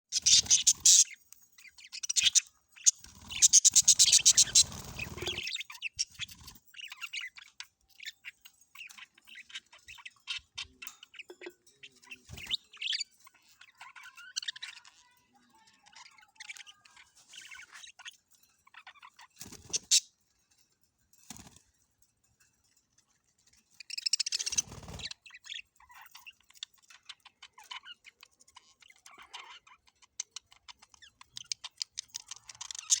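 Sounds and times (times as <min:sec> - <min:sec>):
budgerigars chirping and chattering: 0:00.1 - 0:21.6, 0:22.7 - 0:33.0.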